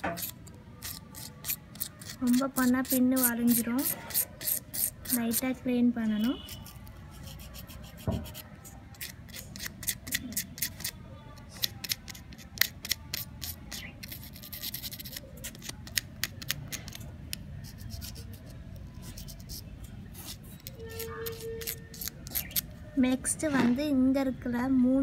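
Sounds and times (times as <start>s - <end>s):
sandpaper scratching metal contacts: 0.0s - 5.5s, 6.5s - 10.9s, 11.6s - 22.7s.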